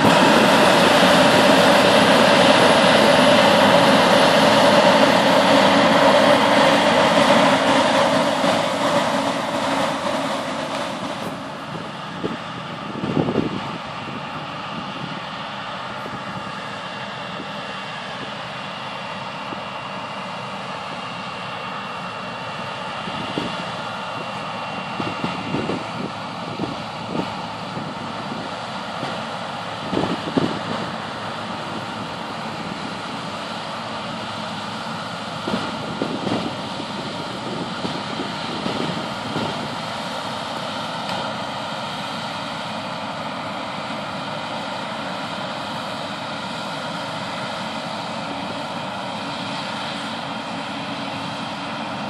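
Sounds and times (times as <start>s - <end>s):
combine harvester droning: 0.0s - 52.0s.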